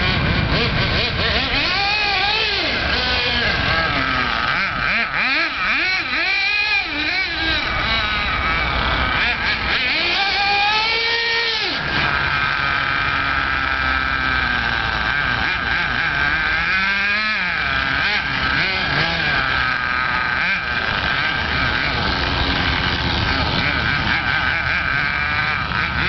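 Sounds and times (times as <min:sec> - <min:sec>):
model car engine buzzing: 0:00.0 - 0:26.0.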